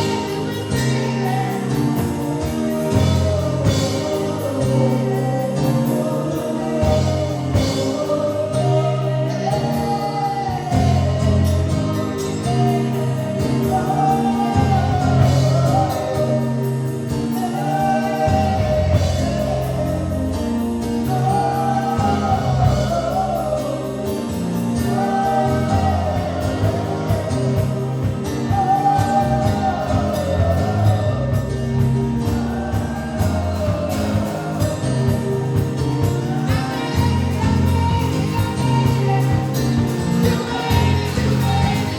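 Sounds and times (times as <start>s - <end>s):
band with bass: 0.0s - 41.9s
voices singing gospel: 0.0s - 41.9s.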